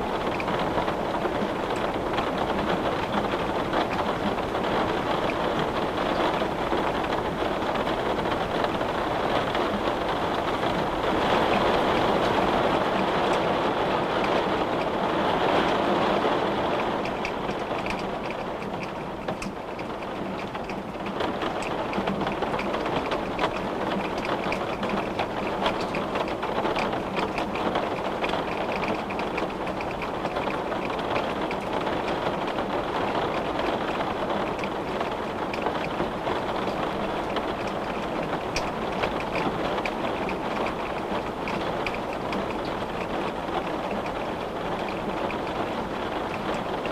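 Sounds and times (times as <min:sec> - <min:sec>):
raindrops ticking on a window: 0:00.0 - 0:46.9
steady rain hiss: 0:00.0 - 0:46.9.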